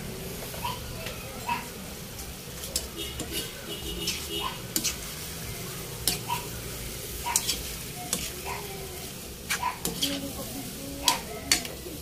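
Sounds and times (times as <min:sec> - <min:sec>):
pan sizzling: 0:00.0 - 0:12.0
metal spatula scraping a wok: 0:02.3 - 0:12.0.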